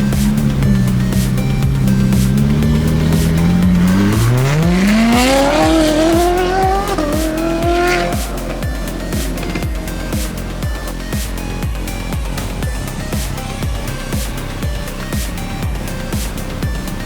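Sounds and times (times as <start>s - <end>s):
background music with steady beat: 0.0s - 17.0s
car engine accelerating: 0.0s - 17.0s.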